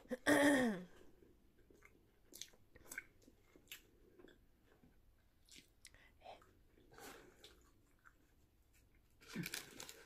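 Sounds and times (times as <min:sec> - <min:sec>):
person chewing food: 0:01.0 - 0:10.0.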